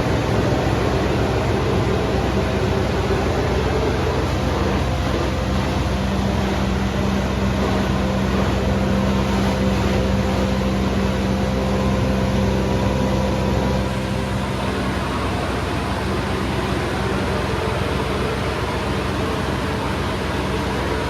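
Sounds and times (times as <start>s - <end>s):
harvesting machine engine hum: 0.0s - 21.0s.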